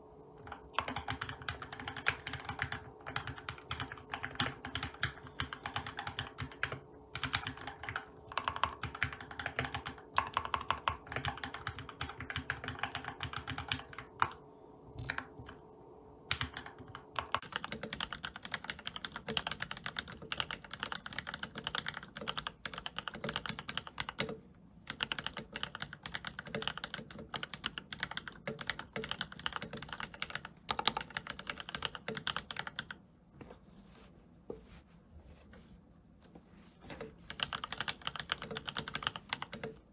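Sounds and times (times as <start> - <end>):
typing on mechanical keyboard: 0.4 - 14.4, 16.3 - 33.0, 37.0 - 39.8.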